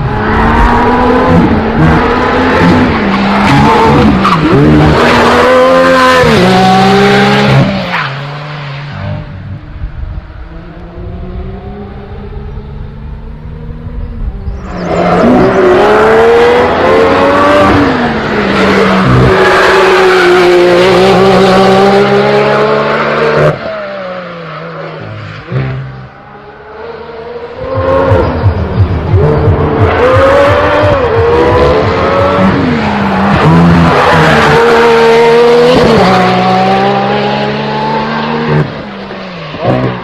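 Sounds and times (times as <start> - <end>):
car engines revving and accelerating: 0.0 - 40.0.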